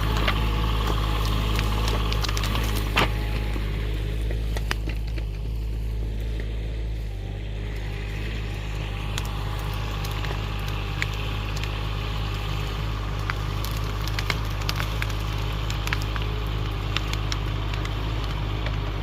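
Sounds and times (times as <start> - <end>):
branches snapping: 0.0 - 19.0
excavator engine running: 0.0 - 19.0.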